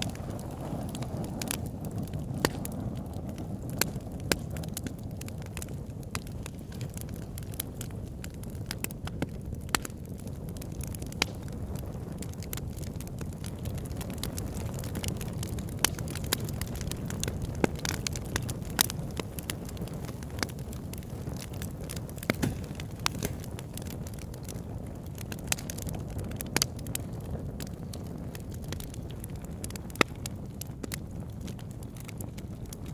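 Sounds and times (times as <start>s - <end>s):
campfire crackling: 0.0s - 32.9s.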